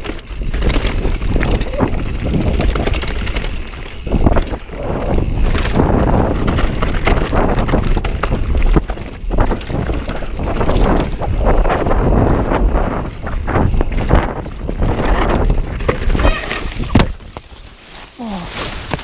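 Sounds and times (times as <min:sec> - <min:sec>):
wind buffeting microphone: 0:00.0 - 0:17.4
bike clattering over bumps: 0:00.0 - 0:18.1
tyres rumbling over dirt: 0:00.0 - 0:19.0.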